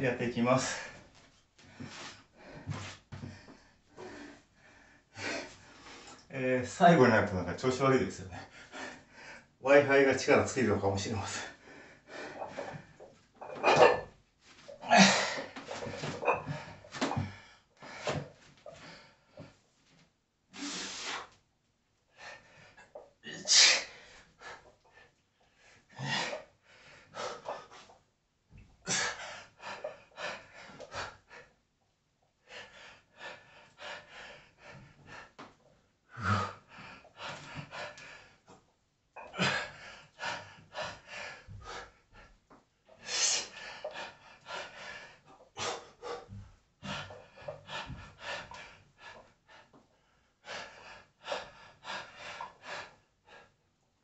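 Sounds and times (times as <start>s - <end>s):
man breathing hard while straining: 0.6s - 6.3s, 11.2s - 19.6s, 20.5s - 21.4s, 22.1s - 28.0s, 28.8s - 31.6s, 32.4s - 38.6s, 39.2s - 42.4s, 43.0s - 53.6s.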